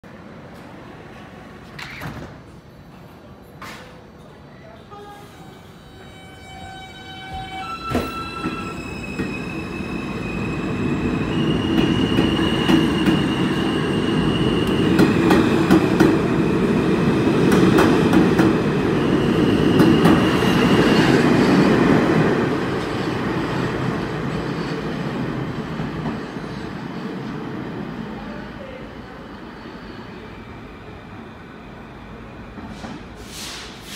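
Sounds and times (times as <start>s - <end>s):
subway train propulsion whine: 4.4s - 33.9s.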